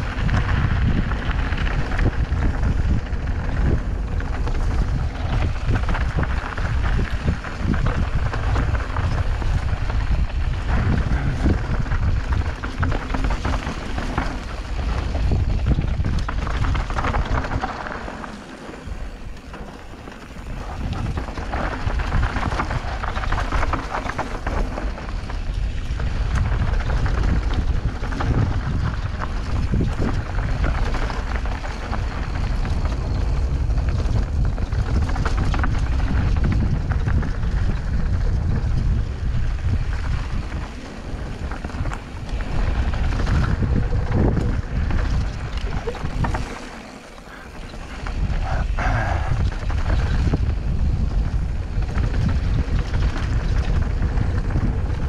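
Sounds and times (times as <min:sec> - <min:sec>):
bike crunching and rattling on dirt: 0:00.0 - 0:55.0
sharp clicks and knocks from bike: 0:00.0 - 0:55.0
wind buffeting microphone: 0:00.0 - 0:55.0.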